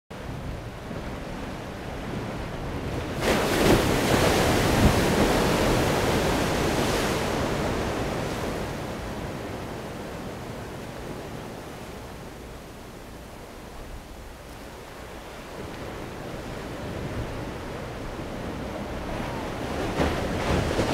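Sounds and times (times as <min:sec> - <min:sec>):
steady surf wash: 0:00.2 - 0:20.9
wave crashing: 0:00.6 - 0:12.6, 0:13.2 - 0:20.9.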